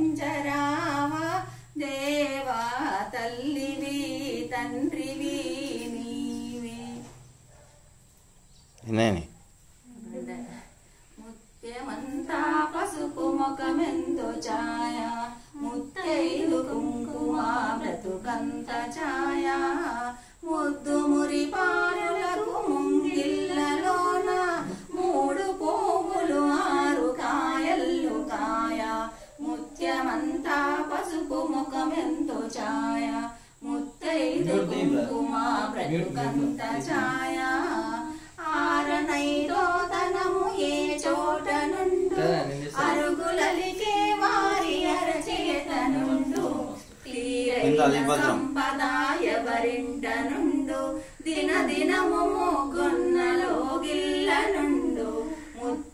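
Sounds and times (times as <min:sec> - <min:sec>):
woman singing unaccompanied: 0:00.0 - 0:07.4, 0:09.8 - 0:55.9.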